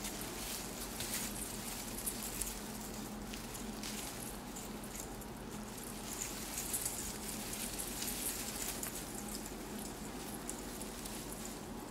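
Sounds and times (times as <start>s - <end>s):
faint low hum: 0.0s - 11.9s
tree branches rustling and crackling: 0.0s - 11.9s.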